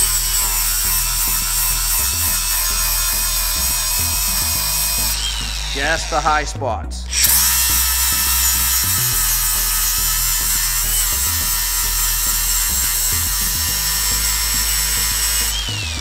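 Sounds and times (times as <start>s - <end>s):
angle grinder grinding metal: 0.0s - 16.0s.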